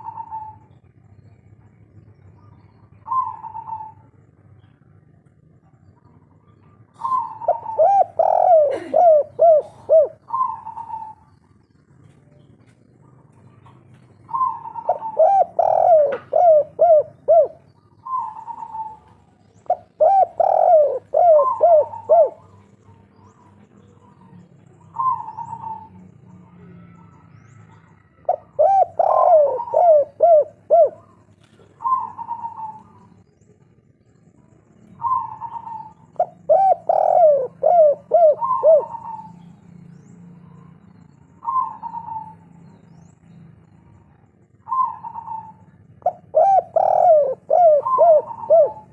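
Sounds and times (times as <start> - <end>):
dove cooing: 0.0 - 1.6, 2.2 - 12.3, 13.0 - 33.9, 34.9 - 39.6, 41.0 - 42.9, 43.6 - 48.9.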